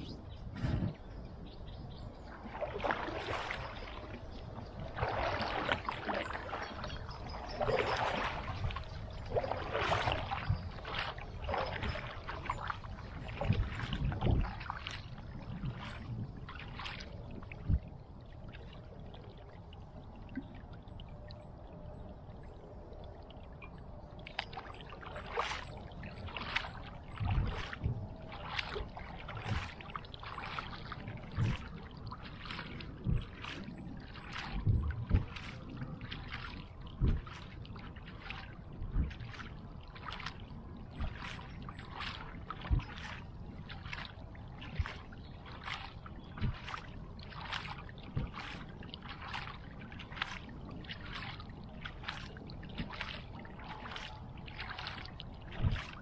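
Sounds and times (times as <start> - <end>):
paddle splashing and dripping: 0.0 - 56.0.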